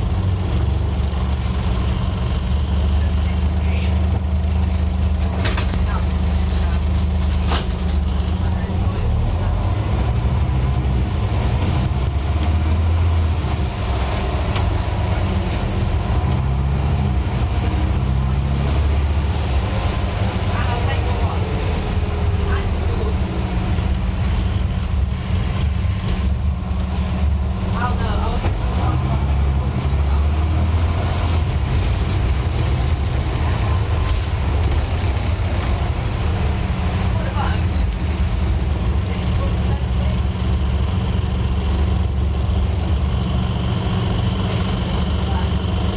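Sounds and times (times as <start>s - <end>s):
bus diesel engine drone: 0.0s - 45.9s.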